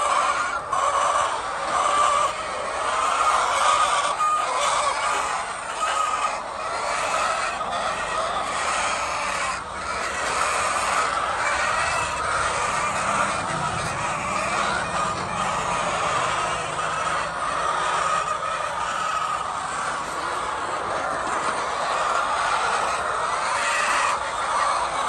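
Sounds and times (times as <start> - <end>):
hens clucking: 0.0 - 25.0.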